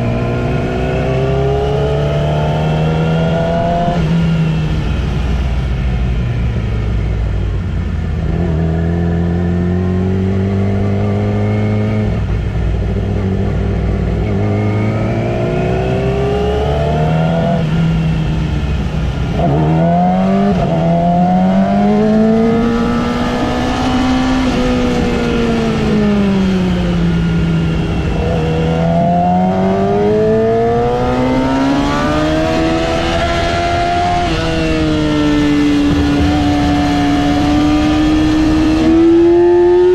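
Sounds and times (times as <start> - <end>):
sport bike engine accelerating: 0.0 - 39.9.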